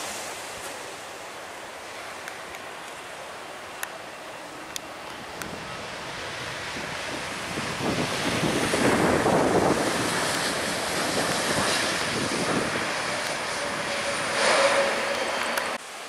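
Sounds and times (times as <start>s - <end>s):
jet engine reverse thrust: 2.6s - 16.0s.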